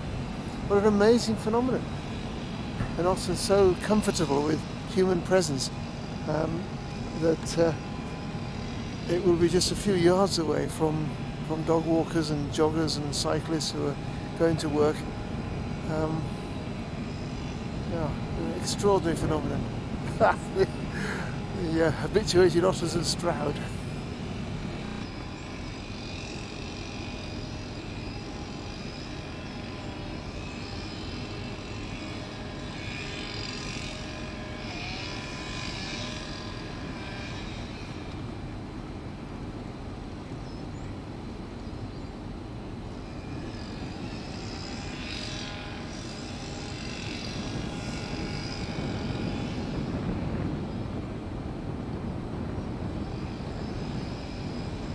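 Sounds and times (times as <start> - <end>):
mechanical drone: 0.0 - 54.9.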